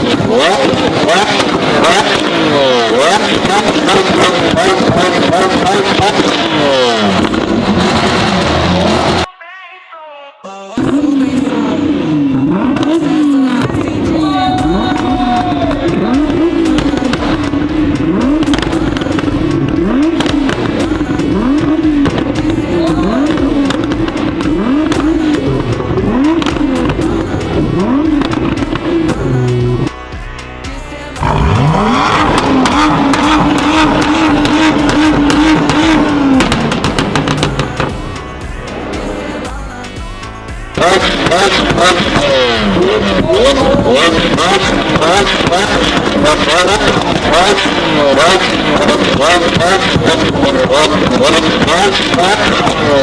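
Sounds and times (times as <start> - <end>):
exhaust pops and crackles: 0.0 - 9.3, 12.3 - 30.0, 31.2 - 38.8, 39.8 - 53.0
sports car engine revving: 0.0 - 9.3, 10.8 - 53.0.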